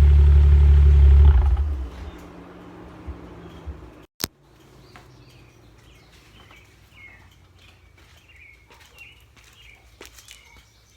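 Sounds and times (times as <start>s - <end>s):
birds chirping: 1.1s - 10.9s.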